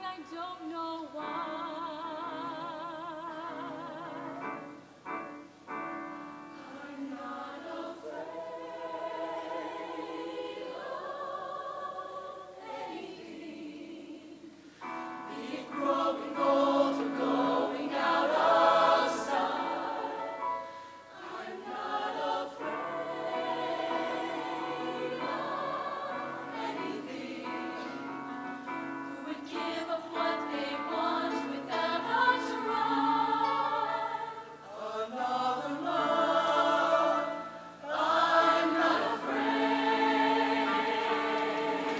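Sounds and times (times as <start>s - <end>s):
choir singing: 6.5s - 41.9s.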